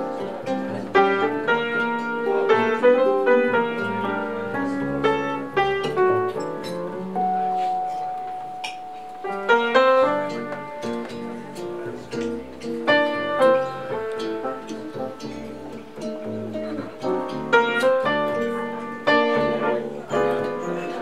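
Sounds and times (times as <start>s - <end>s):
plucked upright double bass: 0.0s - 7.4s, 9.4s - 21.0s
archtop guitar: 0.0s - 21.0s
jazz piano: 0.0s - 21.0s.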